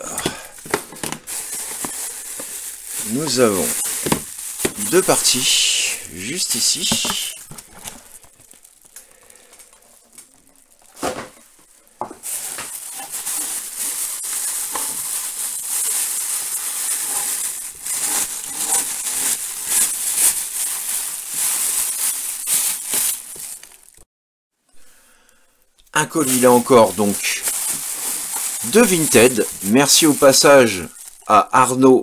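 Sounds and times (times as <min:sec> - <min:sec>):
plastic bag crinkling: 0:00.0 - 0:24.1, 0:25.7 - 0:31.8.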